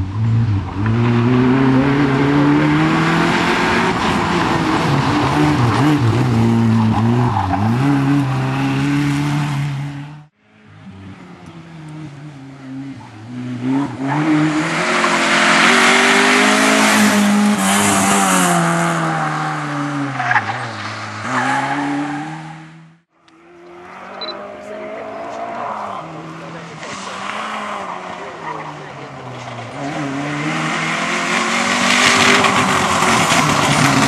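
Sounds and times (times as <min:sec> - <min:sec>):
rally car engine at high revs: 0:00.0 - 0:34.0
tyre and road noise: 0:00.0 - 0:34.0.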